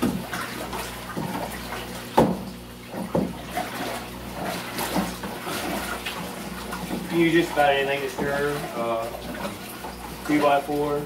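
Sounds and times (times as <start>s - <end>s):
water sloshing in plastic barrel: 0.0s - 11.0s.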